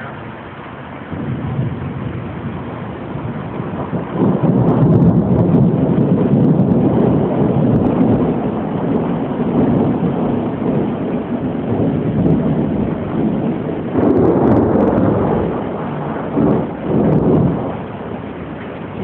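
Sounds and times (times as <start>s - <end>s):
rain: 0.0s - 19.0s
thunder rumbling: 0.0s - 19.0s.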